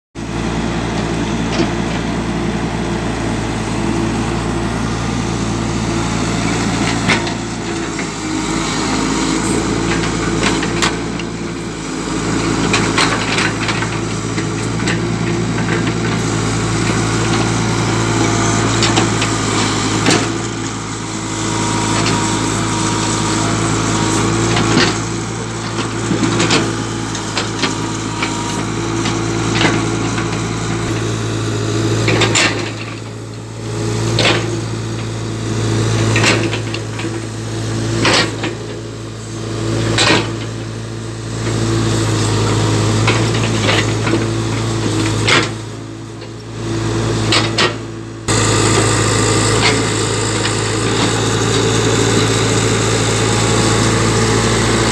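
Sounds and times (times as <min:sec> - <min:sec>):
excavator diesel engine running: 0:00.2 - 0:54.9.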